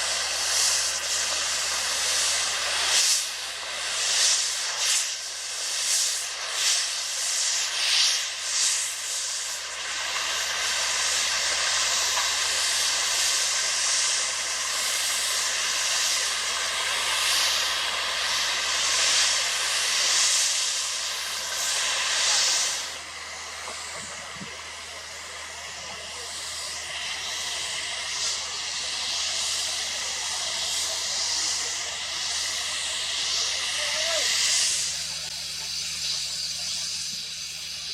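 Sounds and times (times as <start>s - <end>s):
paving machinery hissing: 0.0s - 37.9s.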